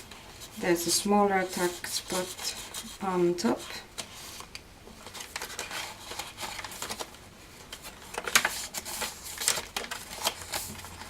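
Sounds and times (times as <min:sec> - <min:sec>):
paper pages rustling: 0:01.5 - 0:11.0.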